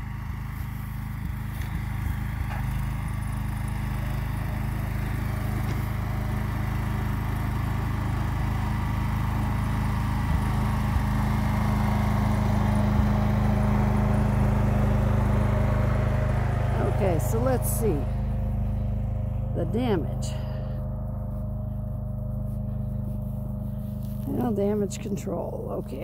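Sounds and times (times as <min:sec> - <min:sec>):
blade pushing snow: 0:00.0 - 0:15.8, 0:16.7 - 0:26.0
garden tractor engine running: 0:00.0 - 0:26.0.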